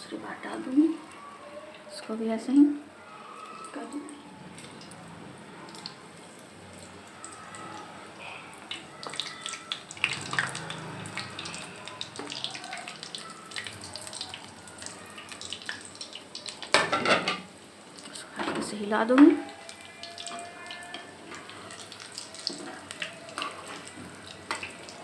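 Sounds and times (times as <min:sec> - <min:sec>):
dough deep-frying in hot oil: 0:00.0 - 0:25.0.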